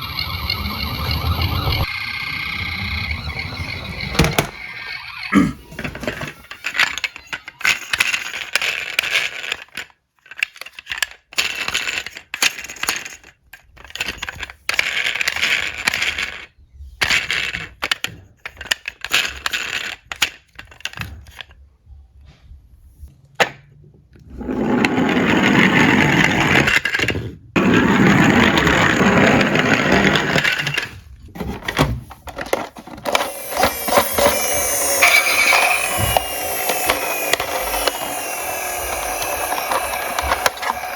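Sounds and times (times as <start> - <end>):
toy cars rolling and clattering: 3.3 - 21.7, 23.4 - 40.9.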